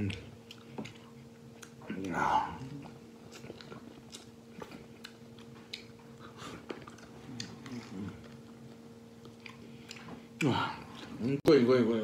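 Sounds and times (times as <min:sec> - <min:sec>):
man chewing meat: 0:00.0 - 0:11.2
faint low hum: 0:00.0 - 0:12.0.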